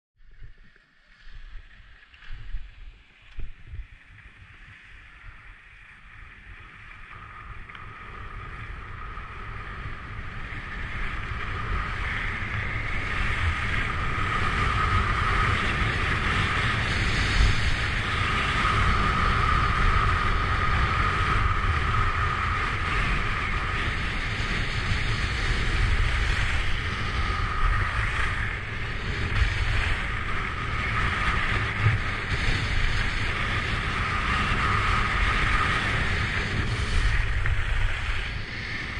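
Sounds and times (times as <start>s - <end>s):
wind rushing over microphone: 0.2s - 38.9s
skis scraping on snow: 1.1s - 38.9s.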